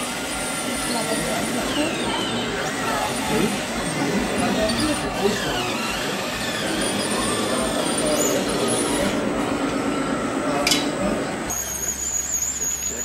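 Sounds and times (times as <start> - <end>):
indistinct voices: 0.0 - 12.0
mechanical hum: 0.0 - 13.0.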